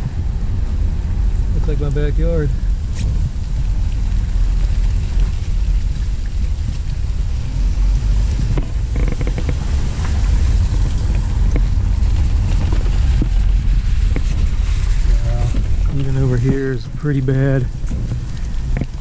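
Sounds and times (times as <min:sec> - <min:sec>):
road and wind rumble: 0:00.0 - 0:19.0.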